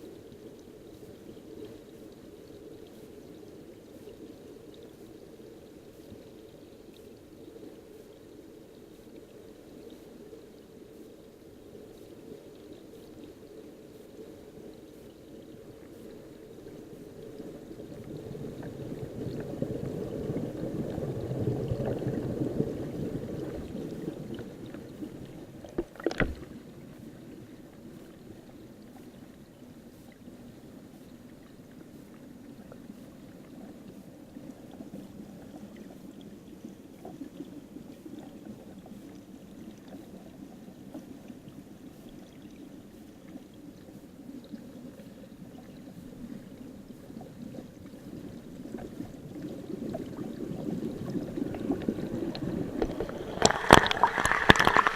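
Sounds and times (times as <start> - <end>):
muffled underwater river rush: 0.0 - 54.9.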